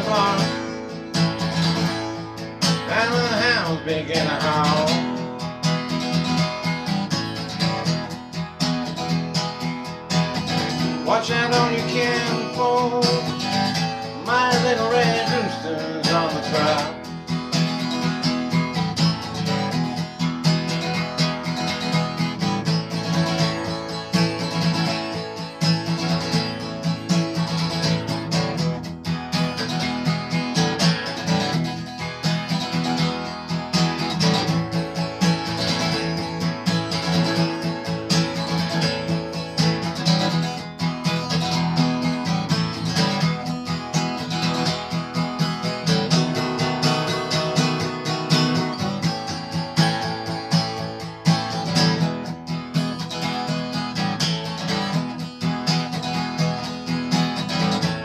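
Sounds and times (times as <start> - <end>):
acoustic blues guitar: 0.0 - 58.0.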